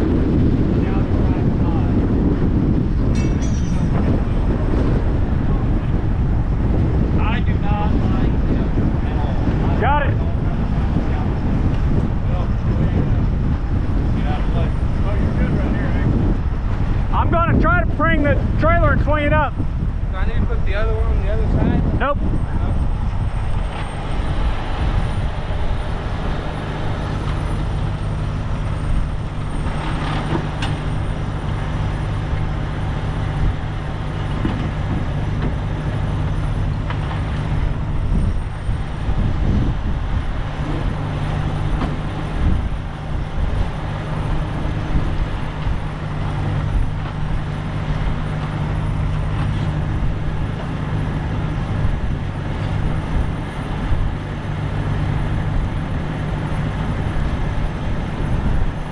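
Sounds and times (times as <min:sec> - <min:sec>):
diesel engine running: 0:00.0 - 0:58.9
wind buffeting microphone: 0:00.0 - 0:58.9.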